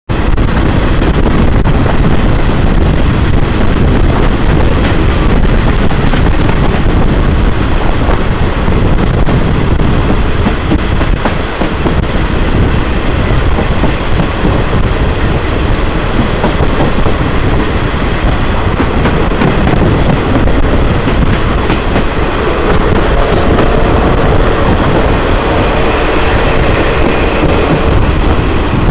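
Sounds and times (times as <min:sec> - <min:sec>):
train rumble and rail clatter: 0:00.1 - 0:28.9.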